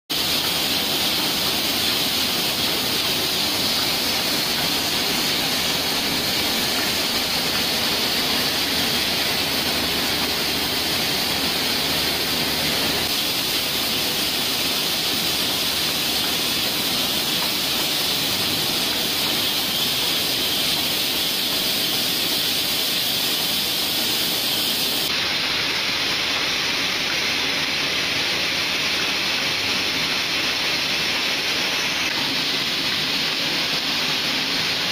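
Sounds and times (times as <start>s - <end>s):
filling machine hissing: 0.1s - 34.9s.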